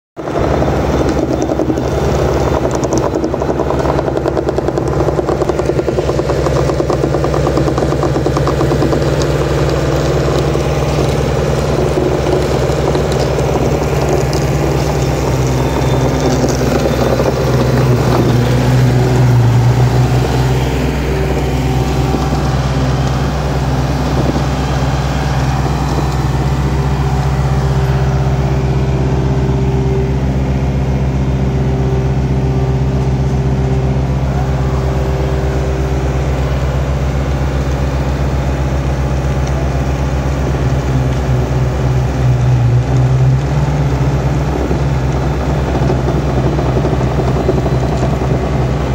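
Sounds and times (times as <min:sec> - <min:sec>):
kerb machine engine running: 0:00.2 - 0:48.9.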